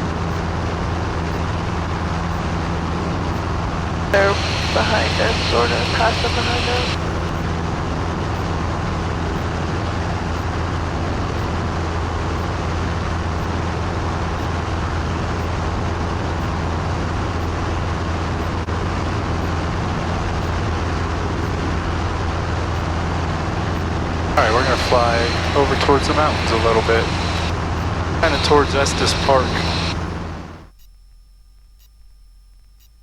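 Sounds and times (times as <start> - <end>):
light aircraft engine drone: 0.0 - 30.7.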